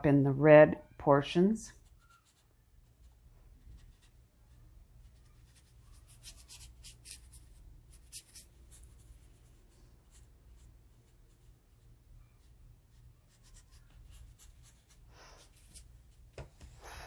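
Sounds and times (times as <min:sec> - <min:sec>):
brush strokes on paper: 0:01.7 - 0:17.0.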